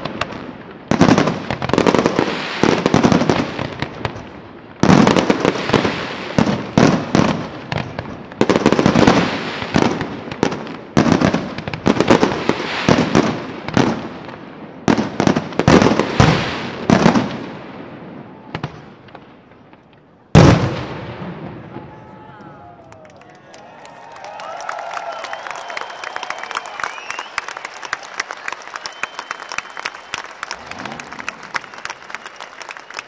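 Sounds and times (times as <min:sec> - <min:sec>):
fireworks bursting: 0:00.0 - 0:22.0, 0:25.3 - 0:33.0.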